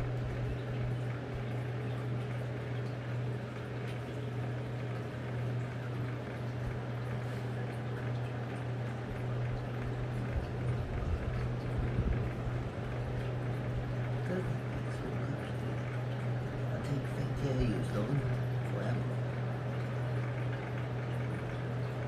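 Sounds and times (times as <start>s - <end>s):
faint trickling water: 0.0s - 22.0s
steady low hum: 0.0s - 22.0s.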